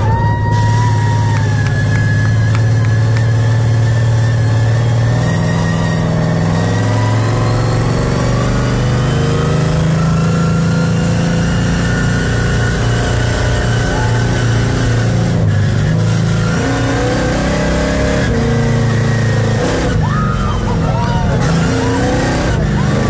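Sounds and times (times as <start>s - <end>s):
truck engine running loud: 0.0s - 23.0s.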